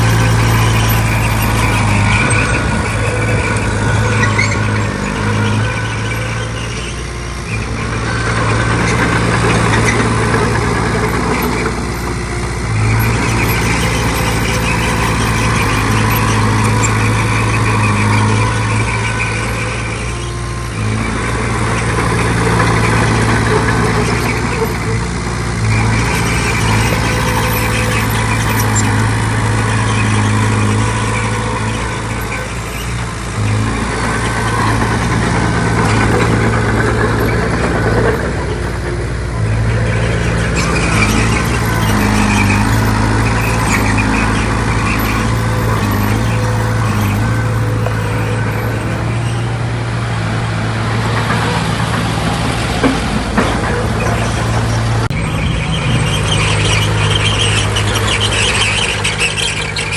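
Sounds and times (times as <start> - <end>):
heavy machinery diesel engine running: 0.0 - 59.9.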